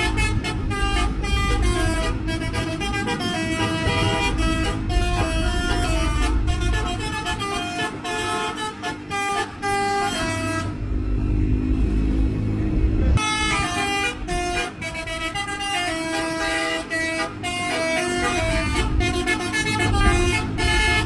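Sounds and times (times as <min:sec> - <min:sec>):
multi-tone bus horn tune: 0:00.0 - 0:10.8, 0:13.2 - 0:21.0.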